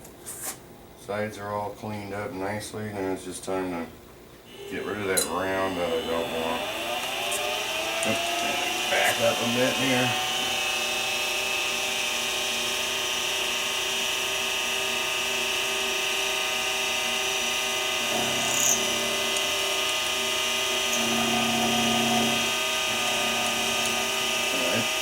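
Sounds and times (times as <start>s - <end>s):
deeper cutter hum: 4.5s - 25.0s
milling machine whine: 4.5s - 25.0s.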